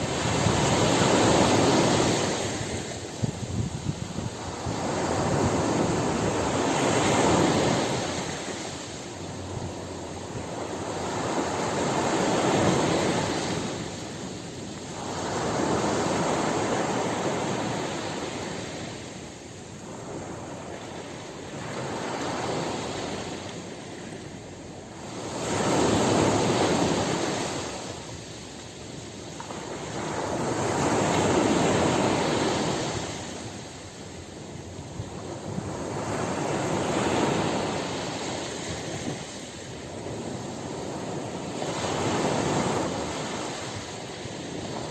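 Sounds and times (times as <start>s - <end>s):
ocean waves breaking on shore: 0.0s - 44.9s.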